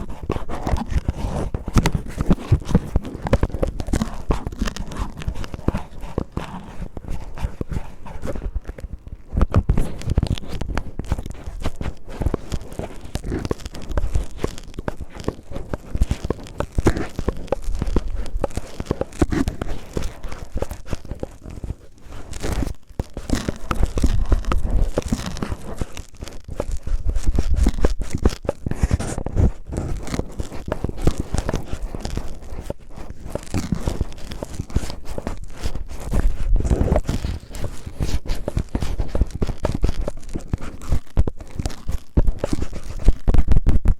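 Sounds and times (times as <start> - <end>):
cellophane crinkling on microphone: 0.0 - 43.9.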